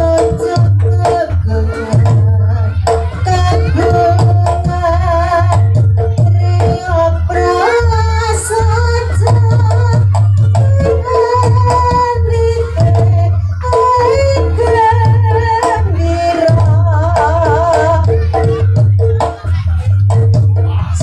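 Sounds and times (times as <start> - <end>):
hand-drum strokes: 0.0 - 21.0.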